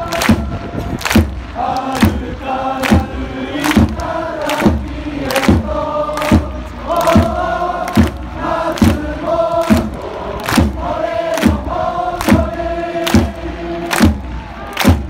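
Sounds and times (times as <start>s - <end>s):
crowd chanting in unison: 0.0s - 15.0s
hands clapping: 0.0s - 15.0s
loud drum beat: 0.0s - 15.0s.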